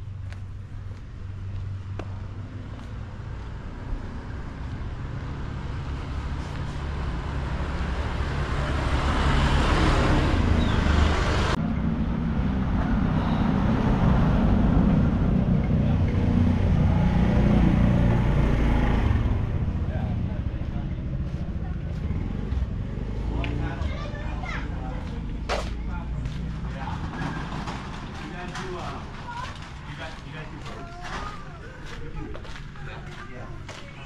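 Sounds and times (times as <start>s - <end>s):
road and wind rush: 0.0s - 33.9s
oncoming motorbike passing: 2.0s - 34.0s.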